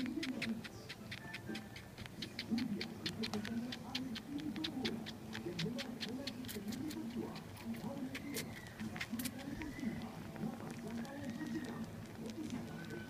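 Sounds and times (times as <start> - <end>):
kitten wet sucking clicks: 0.0 - 13.0.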